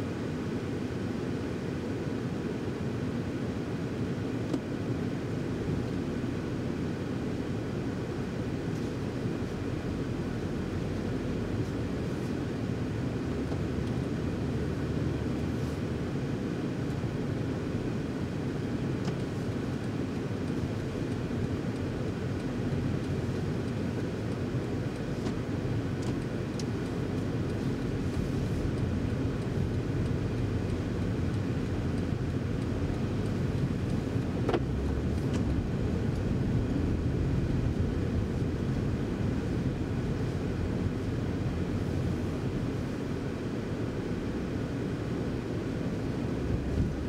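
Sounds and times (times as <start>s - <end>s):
car engine low rumble: 0.0s - 47.0s.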